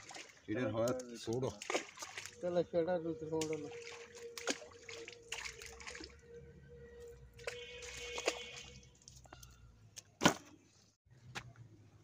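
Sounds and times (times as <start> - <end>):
water dripping and squelching: 0.0 - 10.4.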